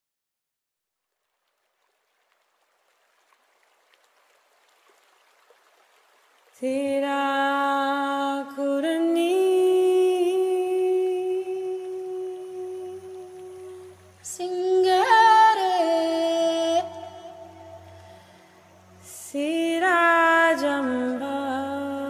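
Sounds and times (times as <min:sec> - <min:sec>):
faint hiss: 0:01.7 - 0:22.0.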